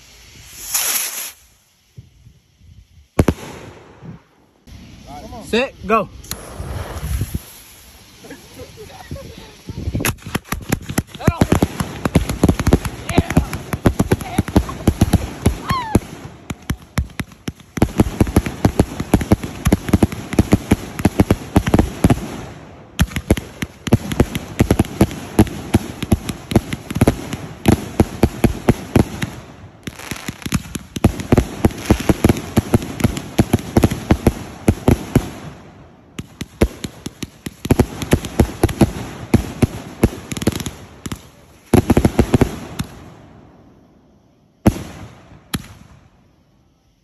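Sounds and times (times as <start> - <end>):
fireworks popping and banging: 0.4 - 2.1, 3.1 - 4.2, 6.2 - 43.1.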